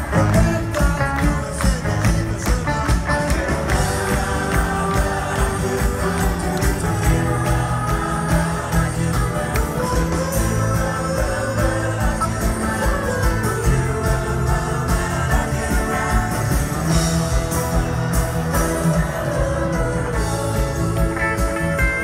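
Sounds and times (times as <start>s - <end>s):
live band playing: 0.0s - 22.0s
person singing: 0.0s - 22.0s
steady drum beat: 0.0s - 22.0s.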